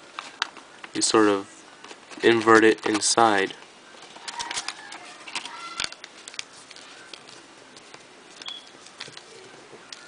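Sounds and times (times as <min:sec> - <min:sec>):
paper crinkling while folded: 0:01.8 - 0:10.0.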